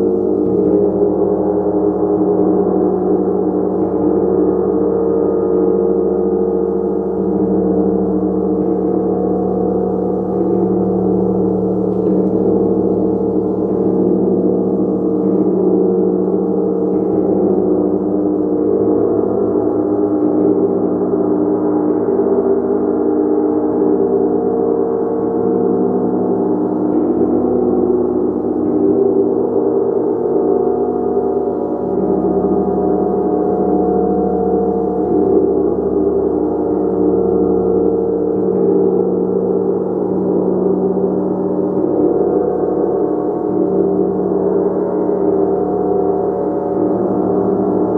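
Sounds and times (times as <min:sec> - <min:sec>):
gong sustained tones: 0:00.0 - 0:47.9.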